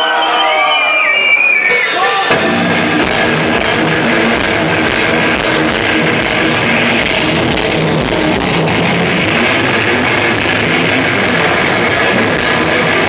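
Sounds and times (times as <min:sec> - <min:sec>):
crowd shouting: 0:00.0 - 0:13.0
death metal band playing live: 0:01.7 - 0:13.0.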